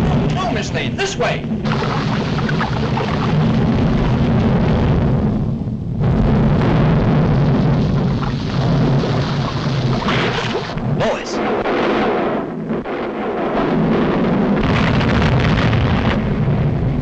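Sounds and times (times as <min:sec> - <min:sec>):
cartoon volcano rumble: 0:00.0 - 0:17.0
explosive blasts: 0:00.0 - 0:17.0.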